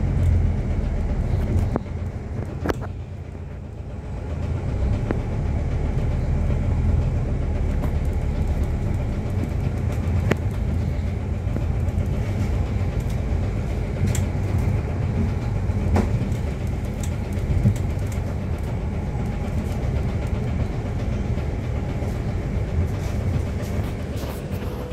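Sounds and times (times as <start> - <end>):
bus body rattles and knocks: 0.0 - 24.9
bus low rumble: 0.0 - 24.9.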